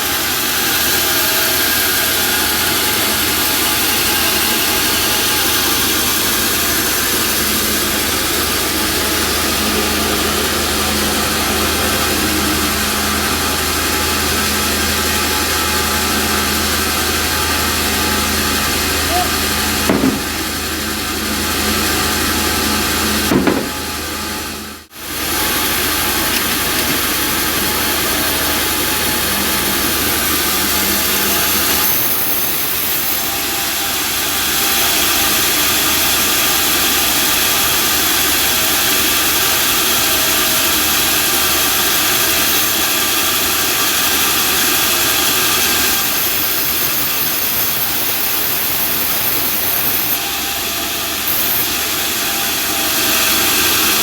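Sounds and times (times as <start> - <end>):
band sawmill sawing timber: 0.0 - 54.0.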